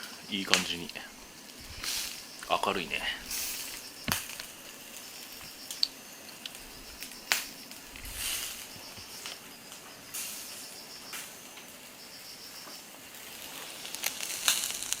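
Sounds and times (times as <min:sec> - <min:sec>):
charcoal crackling and hissing: 0:00.0 - 0:15.0.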